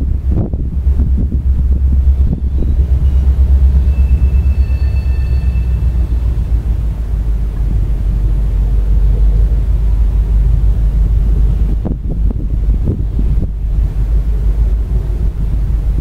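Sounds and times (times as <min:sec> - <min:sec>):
distant freight train rolling: 0:00.0 - 0:16.0
wind buffeting microphone: 0:00.0 - 0:16.0.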